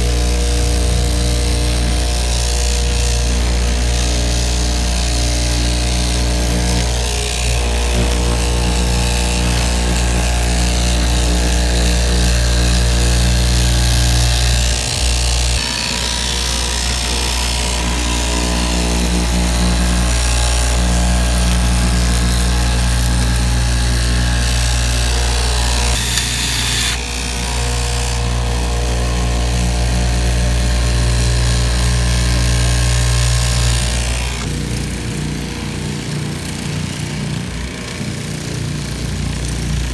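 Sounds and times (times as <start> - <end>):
fabric cutting machine humming: 0.0 - 39.9.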